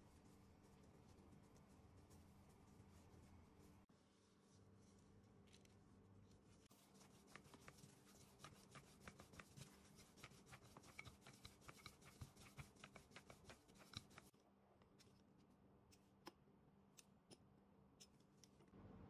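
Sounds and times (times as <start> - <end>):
hands kneading dough: 0.0 - 16.4.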